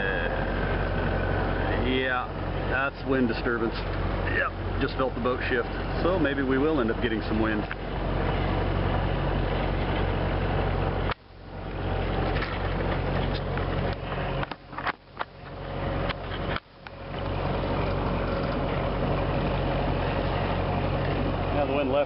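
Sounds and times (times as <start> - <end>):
boat engine drone: 0.0 - 22.0.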